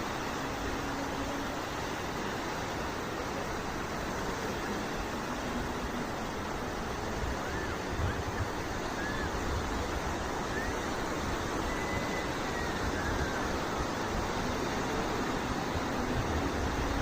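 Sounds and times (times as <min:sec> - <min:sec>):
waves breaking on a beach: 0:00.0 - 0:17.0.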